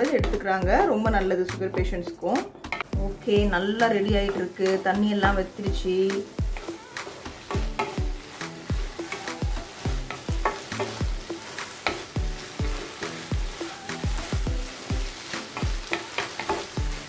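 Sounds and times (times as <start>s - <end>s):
background music with steady beat: 0.0s - 17.0s
light sizzle: 2.8s - 17.0s
spatula stirring thick mixture: 2.9s - 17.0s.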